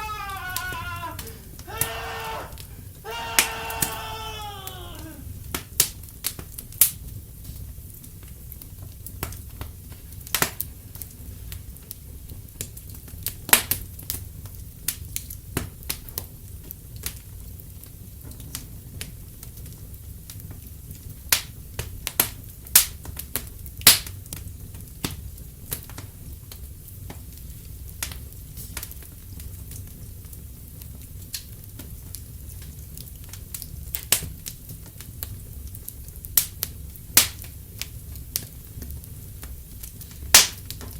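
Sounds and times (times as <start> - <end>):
fire crackling: 0.0 - 40.9.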